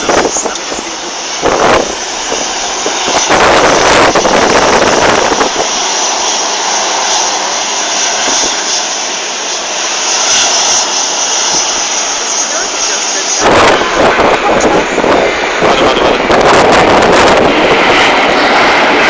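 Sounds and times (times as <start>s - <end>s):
jet engines passing overhead: 0.0s - 19.0s.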